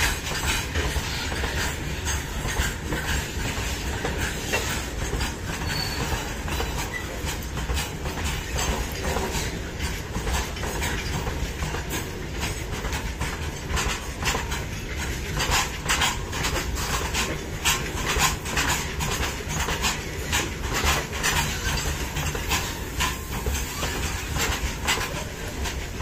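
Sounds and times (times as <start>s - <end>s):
freight train rumbling past: 0.0s - 26.0s
wheels clicking and clacking: 0.0s - 26.0s.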